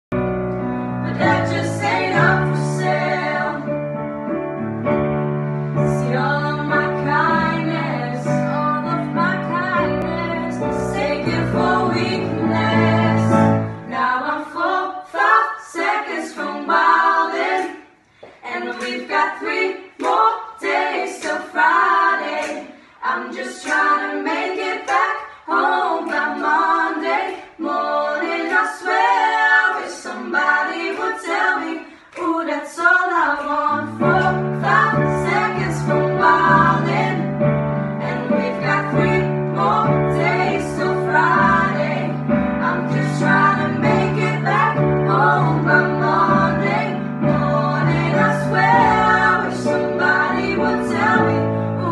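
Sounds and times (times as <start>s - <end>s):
female voices singing in harmony: 1.0s - 4.0s, 5.8s - 51.9s.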